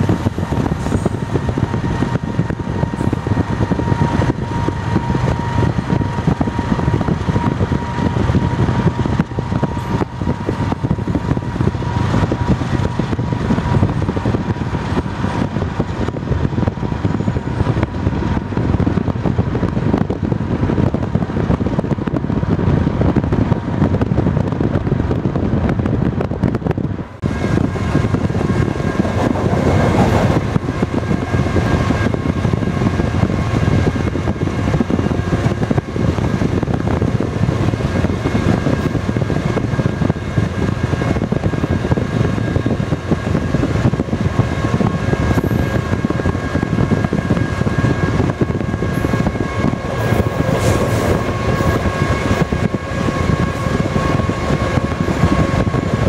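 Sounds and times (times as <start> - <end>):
car road and wind noise: 0.0 - 56.0
diesel locomotives rumbling: 0.0 - 56.0
steady high whine: 0.0 - 56.0.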